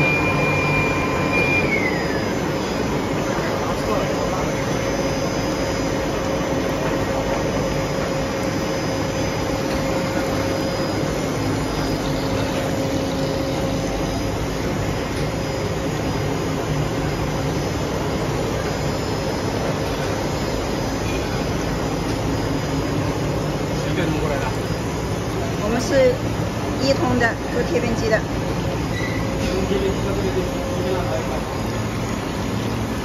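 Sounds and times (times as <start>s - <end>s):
production line machinery drone: 0.0s - 33.0s.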